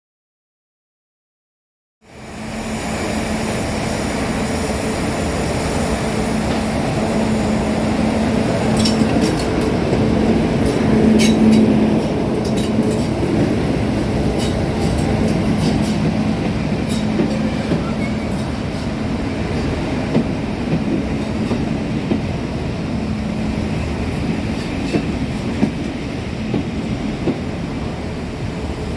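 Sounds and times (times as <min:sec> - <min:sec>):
diesel locomotive engine drone: 0:02.0 - 0:28.9.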